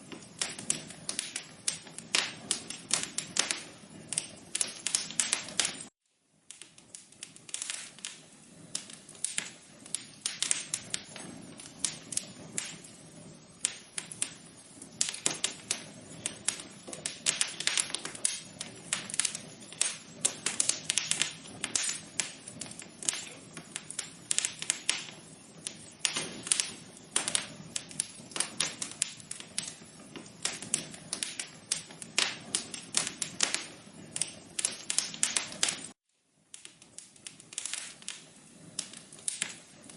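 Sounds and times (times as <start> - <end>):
fire crackling and popping: 0.0 - 39.9
low hiss of flames: 0.0 - 39.9.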